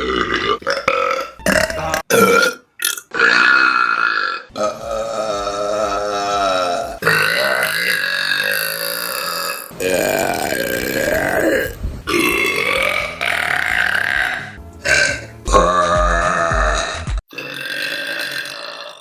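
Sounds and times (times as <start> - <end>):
women burping: 0.0 - 19.0.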